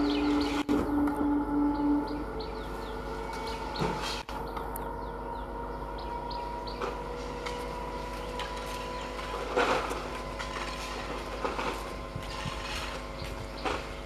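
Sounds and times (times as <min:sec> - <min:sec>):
small birds chirping: 0:00.0 - 0:00.7, 0:01.6 - 0:09.6, 0:10.2 - 0:14.0
electric train hum and whine: 0:00.0 - 0:14.0.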